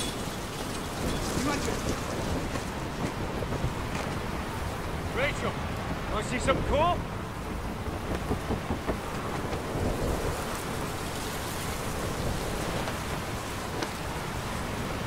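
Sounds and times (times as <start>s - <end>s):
storm wind: 0.0s - 15.0s
thunder rumbling: 0.0s - 15.0s.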